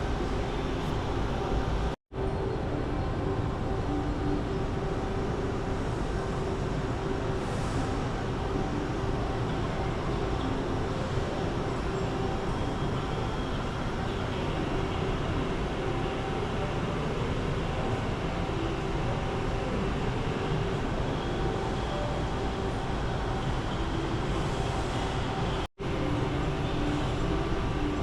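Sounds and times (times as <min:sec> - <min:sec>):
faint hum: 0:00.0 - 0:28.0.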